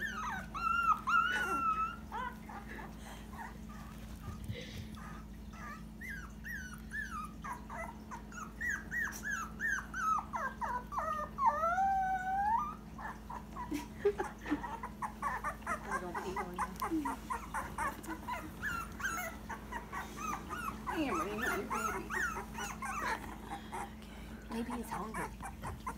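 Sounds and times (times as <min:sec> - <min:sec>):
puppy howl: 0:00.0 - 0:03.9, 0:05.0 - 0:25.9
puppy whining and yipping: 0:00.0 - 0:25.9.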